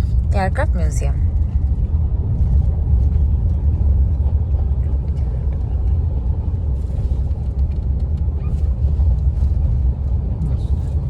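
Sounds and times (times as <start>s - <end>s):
road vehicle rumble from on board: 0.0s - 11.0s.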